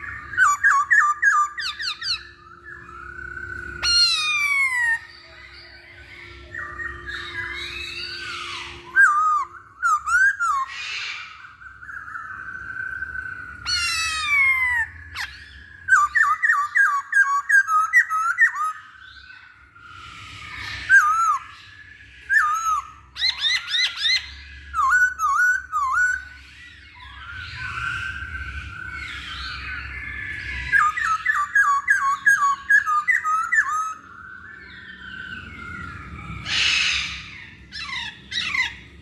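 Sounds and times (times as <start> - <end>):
bird singing whistled phrases: 0.0 - 38.8.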